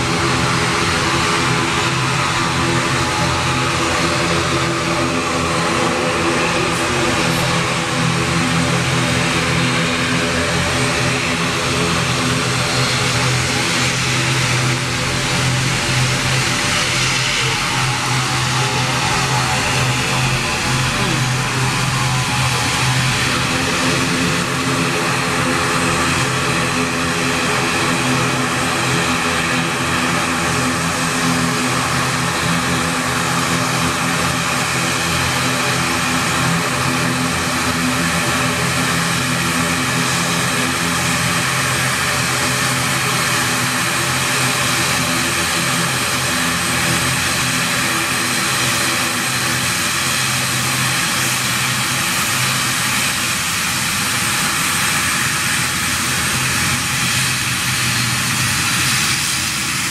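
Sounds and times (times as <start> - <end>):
turboprop engines droning: 0.0 - 59.9.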